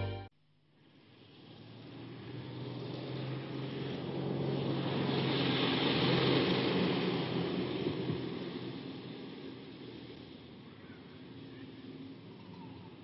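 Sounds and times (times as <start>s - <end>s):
car passing by: 0.8s - 13.0s.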